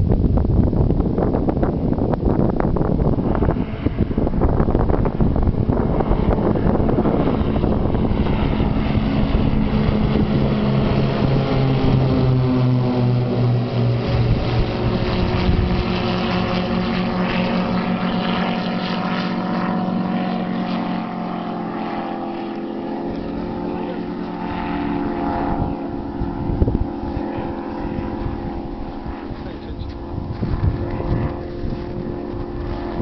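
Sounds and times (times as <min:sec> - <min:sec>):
propeller aircraft droning overhead: 0:00.0 - 0:33.0.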